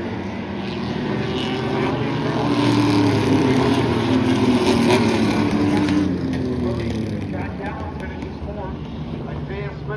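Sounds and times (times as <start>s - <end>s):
race truck engines running: 0.3s - 9.9s.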